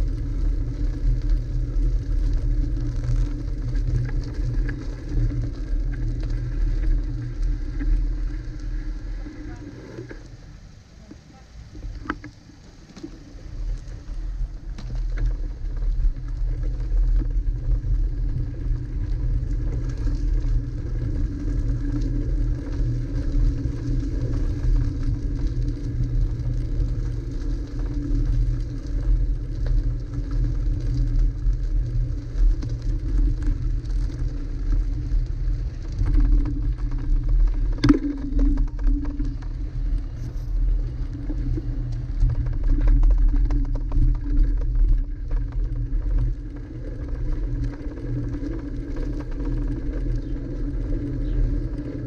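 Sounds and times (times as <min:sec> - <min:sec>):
bicycle tyres rumbling on road: 0:00.0 - 0:52.0.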